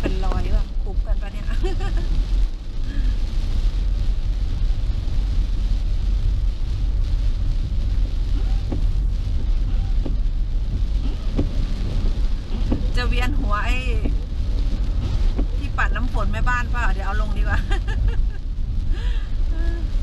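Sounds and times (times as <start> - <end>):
rain hitting a car: 0.0 - 20.0
road and tyre rumble: 0.0 - 20.0.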